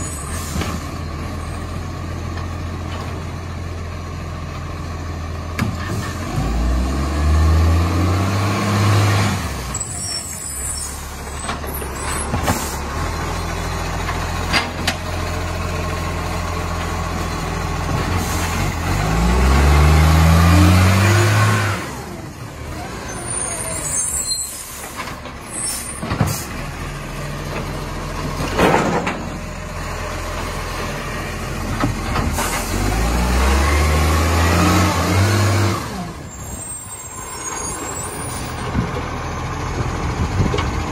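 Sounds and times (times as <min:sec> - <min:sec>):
garbage truck engine revving: 0:05.5 - 0:40.9.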